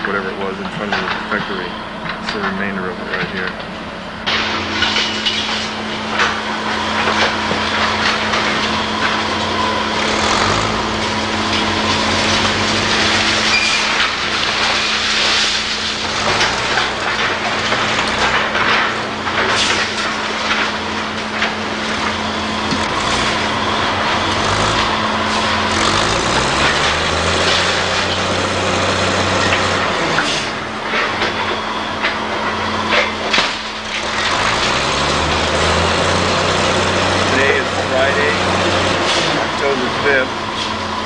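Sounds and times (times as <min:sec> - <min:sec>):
diesel engine revving: 0:00.0 - 0:41.0
machinery clatter with knocks: 0:00.0 - 0:41.0.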